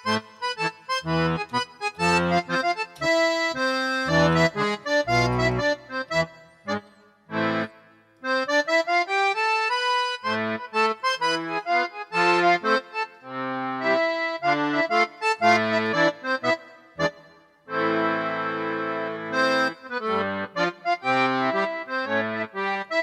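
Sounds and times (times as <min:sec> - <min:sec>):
keyboard playing accordion tone: 0:00.0 - 0:23.0.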